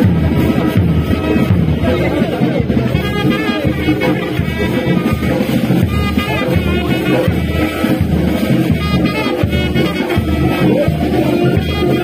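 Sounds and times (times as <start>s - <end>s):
brass music: 0.0s - 12.0s.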